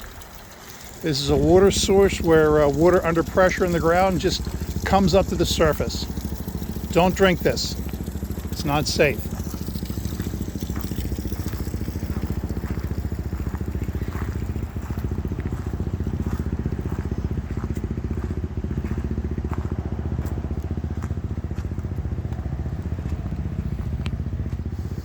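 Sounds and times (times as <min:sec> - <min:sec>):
low pulsing motor drone: 0:00.0 - 0:25.0
footsteps on gravel: 0:00.6 - 0:25.0.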